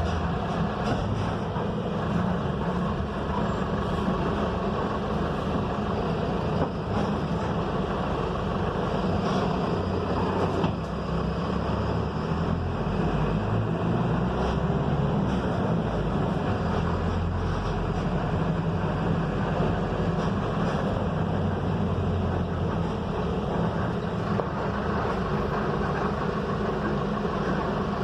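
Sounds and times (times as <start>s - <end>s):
bus engine hum: 0.0s - 28.0s
road noise: 0.0s - 28.0s.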